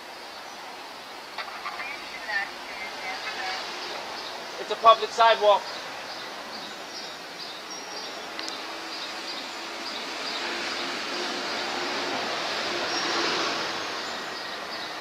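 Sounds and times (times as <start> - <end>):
city street traffic: 0.0 - 15.0
vehicle passing: 1.4 - 15.0.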